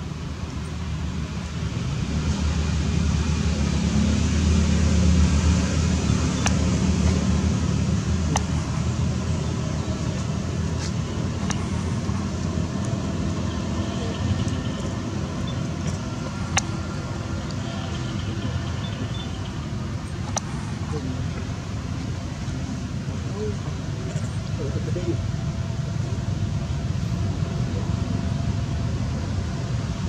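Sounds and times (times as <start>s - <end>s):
low rumbling background noise: 0.0s - 30.0s.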